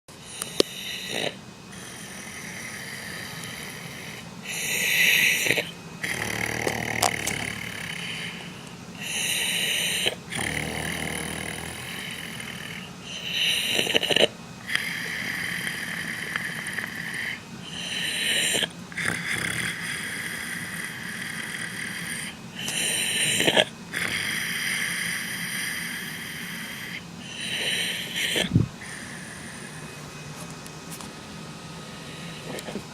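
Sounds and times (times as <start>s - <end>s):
man snoring: 0.3s - 29.9s, 31.9s - 32.9s.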